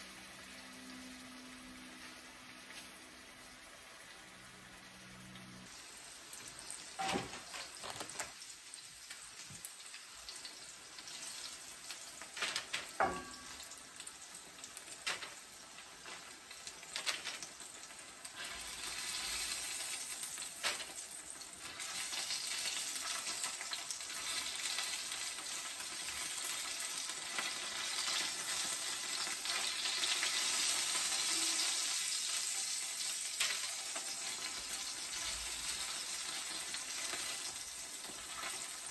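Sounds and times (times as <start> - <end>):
chicken sizzling in hot oil: 0.0 - 38.9.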